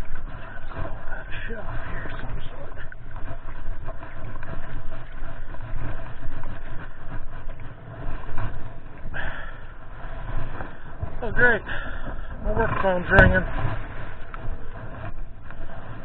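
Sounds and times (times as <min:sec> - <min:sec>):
mud squelching and scraping: 0:00.0 - 0:16.0
steady low rumble: 0:00.0 - 0:16.0.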